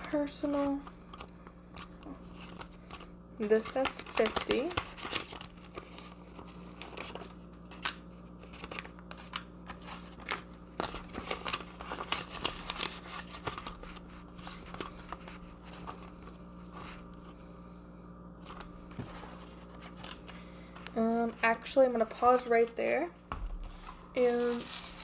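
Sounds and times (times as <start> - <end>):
paper and plastic crinkling: 0.0 - 17.6, 18.4 - 25.0.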